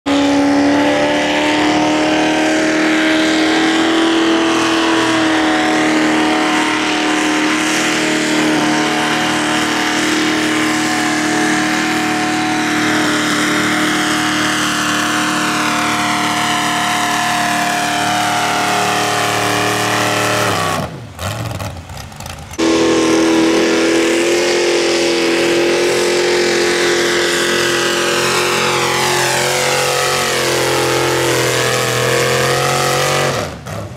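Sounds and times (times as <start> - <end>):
tractor engine at full throttle: 0.0 - 33.9.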